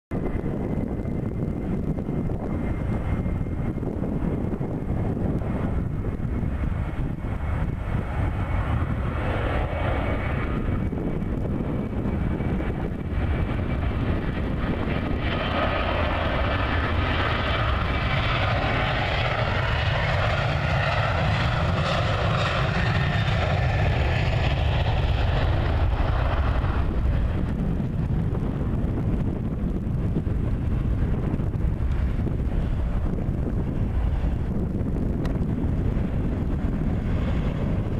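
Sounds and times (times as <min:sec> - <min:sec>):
jet engines roaring at takeoff: 0:00.1 - 0:37.9.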